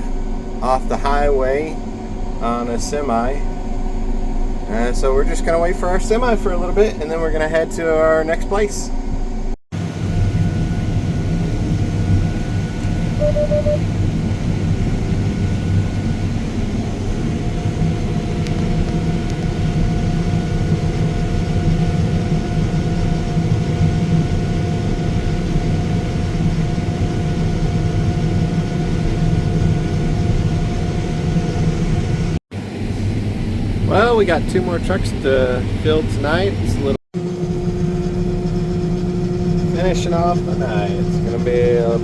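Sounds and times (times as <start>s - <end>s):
diesel engine low drone: 0.0s - 42.0s
faint steady whine: 0.0s - 42.0s.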